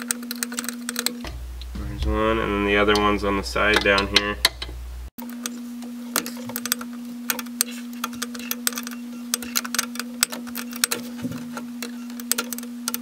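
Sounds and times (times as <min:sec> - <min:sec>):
steady low hum: 0:00.9 - 0:13.0.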